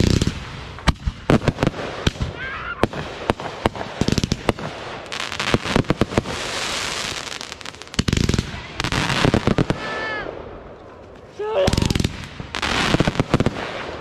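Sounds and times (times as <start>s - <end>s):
fireworks bangs and pops: 0.0s - 10.3s, 11.0s - 14.0s
fireworks crackling: 0.0s - 14.0s.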